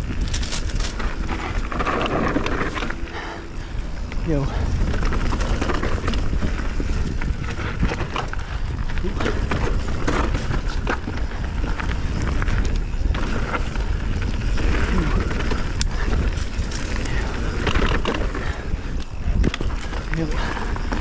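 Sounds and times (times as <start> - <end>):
bike clicking and rattling: 0.0 - 21.0
bike tyres rumbling on dirt trail: 0.0 - 21.0
wind on camera: 0.0 - 21.0.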